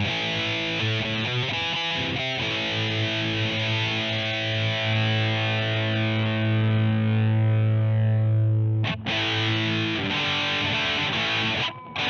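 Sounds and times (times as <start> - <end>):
distorted electric guitar chord: 0.0 - 12.0.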